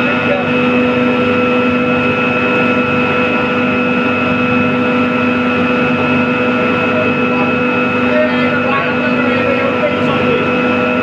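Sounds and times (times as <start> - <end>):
steady machine drone: 0.0 - 11.0.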